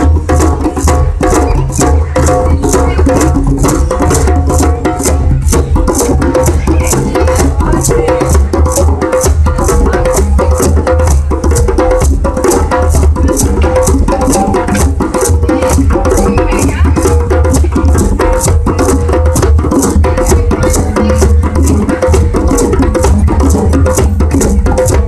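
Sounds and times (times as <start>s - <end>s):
hand drums in fast rhythm: 0.0s - 25.0s.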